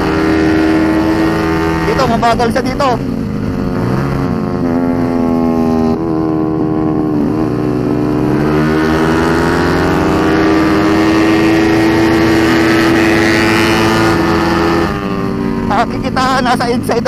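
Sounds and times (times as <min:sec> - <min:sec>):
scooter engine racing: 0:00.0 - 0:17.0.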